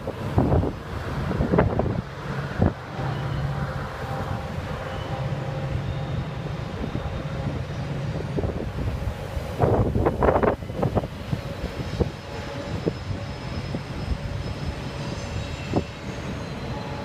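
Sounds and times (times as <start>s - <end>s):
wind buffeting microphone: 0.0s - 3.1s, 5.8s - 17.0s
freight train rumbling past: 0.0s - 17.0s.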